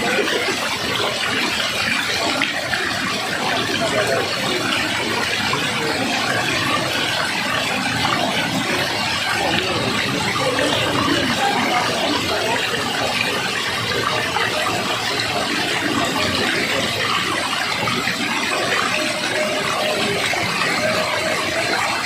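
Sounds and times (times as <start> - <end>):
waterfall pouring and splashing: 0.0 - 22.0.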